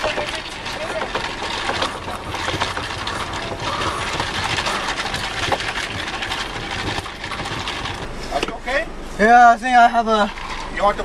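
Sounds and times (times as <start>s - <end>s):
ice rattling in paper cup: 0.0s - 8.4s, 10.1s - 11.0s.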